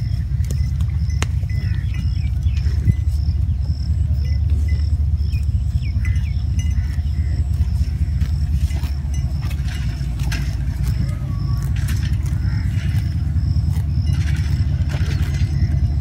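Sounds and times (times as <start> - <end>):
birds chirping: 0.0 - 16.0
distant locomotive engine rumbling: 0.0 - 16.0.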